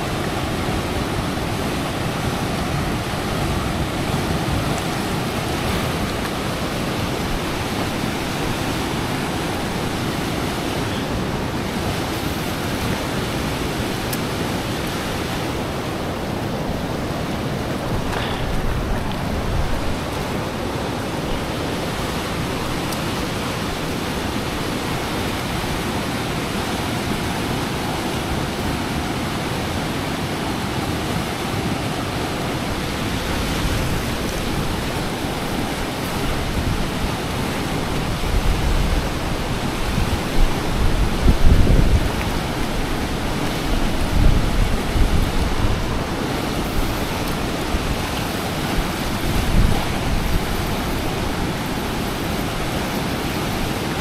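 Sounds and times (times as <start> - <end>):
fast-flowing river water: 0.0 - 54.0
wind buffeting microphone: 0.0 - 54.0.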